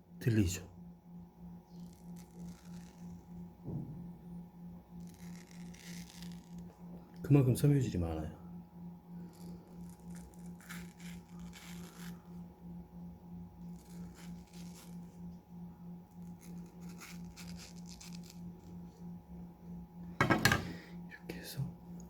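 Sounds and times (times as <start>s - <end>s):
low pulsing hum: 0.0s - 22.0s.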